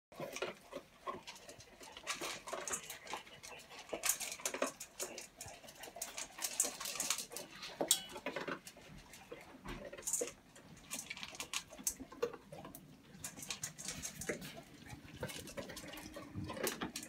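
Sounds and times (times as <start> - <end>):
dogs chomping and smacking: 0.1 - 17.0
teeth clicking on metal bowls: 0.1 - 17.0.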